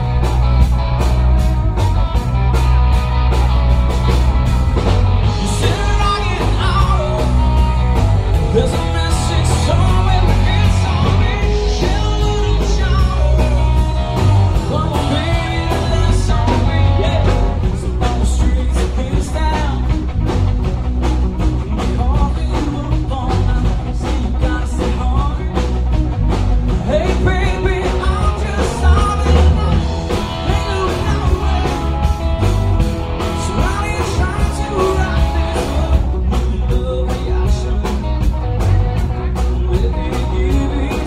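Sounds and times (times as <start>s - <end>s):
rock band playing: 0.0s - 41.0s
man singing lead vocal: 5.2s - 20.3s, 21.7s - 25.9s, 26.7s - 32.5s, 33.2s - 41.0s.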